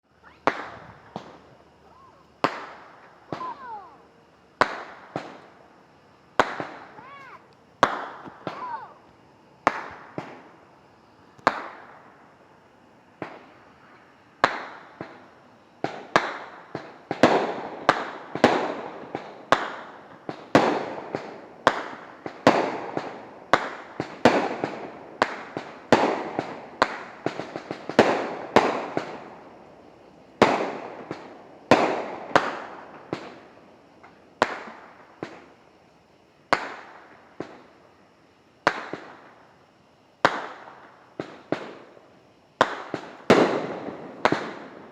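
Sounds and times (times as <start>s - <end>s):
fireworks banging: 0.2s - 5.7s, 6.4s - 10.6s, 11.4s - 12.3s, 13.2s - 29.6s, 30.4s - 35.6s, 36.5s - 37.7s, 38.6s - 39.4s, 40.2s - 42.0s, 42.6s - 44.9s.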